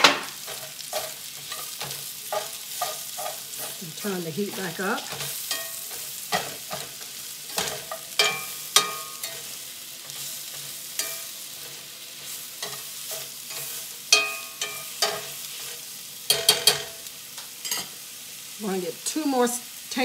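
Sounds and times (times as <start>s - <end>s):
metal spatula scraping pan: 0.0s - 17.0s
food sizzling in skillet: 0.0s - 20.0s.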